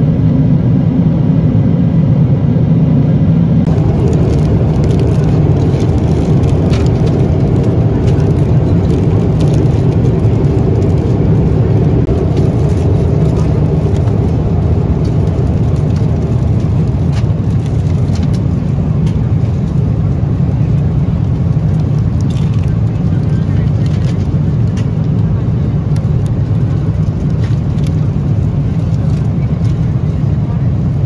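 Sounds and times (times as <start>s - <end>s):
airplane cabin drone: 0.0s - 31.0s.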